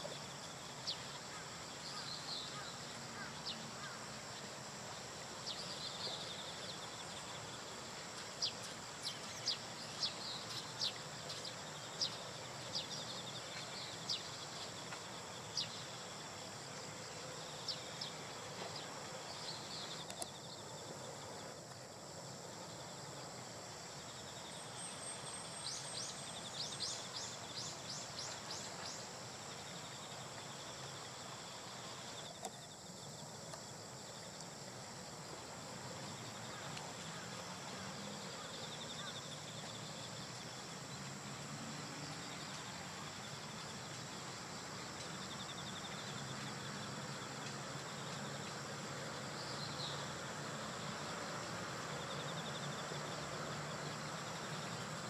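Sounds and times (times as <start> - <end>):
outdoor hiss: 0.0 - 55.0.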